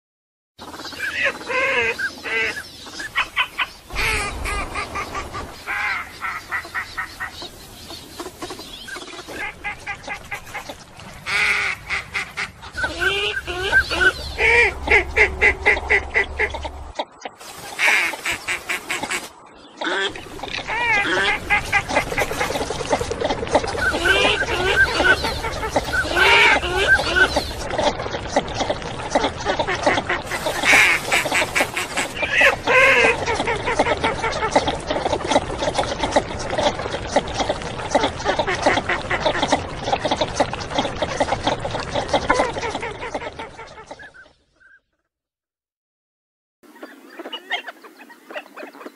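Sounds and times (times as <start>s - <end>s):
ducks clucking: 0.6s - 44.4s.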